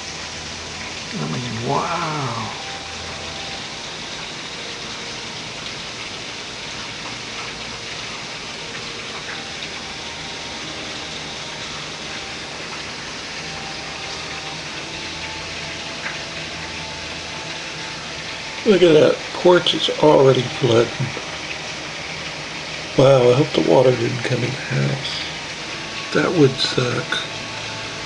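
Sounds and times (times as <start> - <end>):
heavy rain downpour: 0.0 - 28.0.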